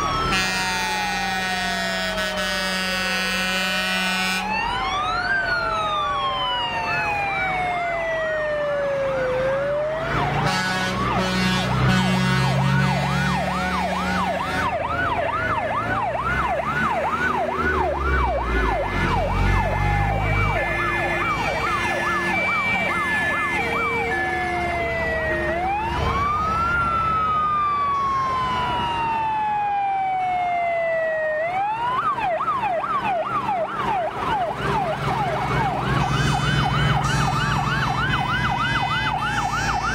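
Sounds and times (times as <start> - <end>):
fire engine sirens wailing: 0.0 - 39.9
heavy truck engines rumbling: 0.0 - 39.9
two-tone hi-lo siren: 0.0 - 39.9.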